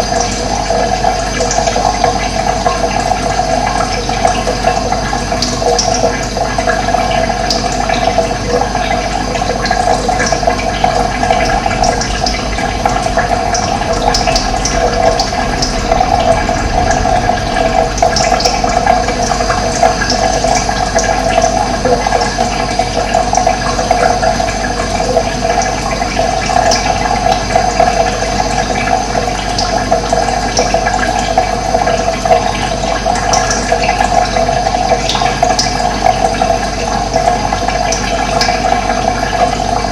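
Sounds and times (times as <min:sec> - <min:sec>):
water rushing: 0:00.8 - 0:34.7.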